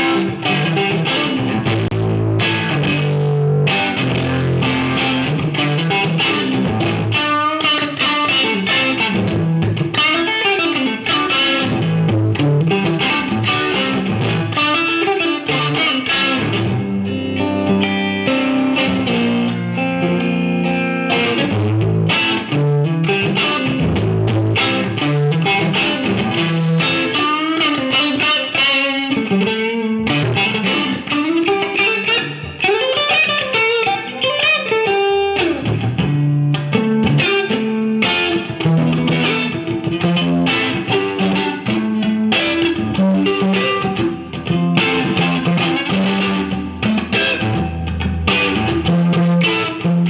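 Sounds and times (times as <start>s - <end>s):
electric guitar melodic lines: 0.0s - 50.0s.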